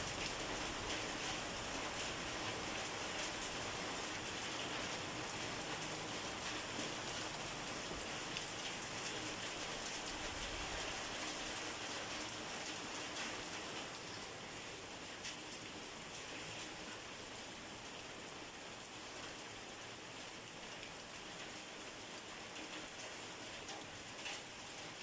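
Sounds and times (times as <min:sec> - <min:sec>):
individual raindrops: 0:00.0 - 0:25.0
steady rain hiss: 0:00.0 - 0:25.0.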